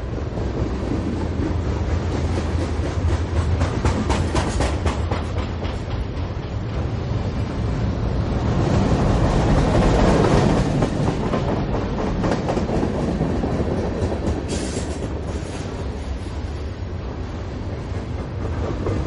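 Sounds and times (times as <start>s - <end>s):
train running on rails: 0.0s - 19.0s.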